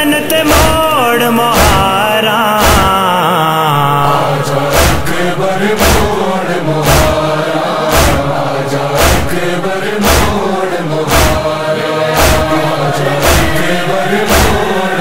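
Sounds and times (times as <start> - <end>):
chorus chanting wordless line: 0.0 - 15.0
chest-beating thuds: 0.4 - 2.0, 2.6 - 3.1, 4.6 - 15.0.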